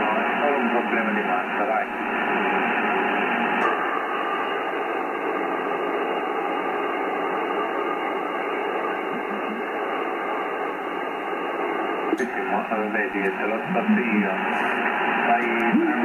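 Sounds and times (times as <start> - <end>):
radio band noise hiss: 0.0 - 16.0.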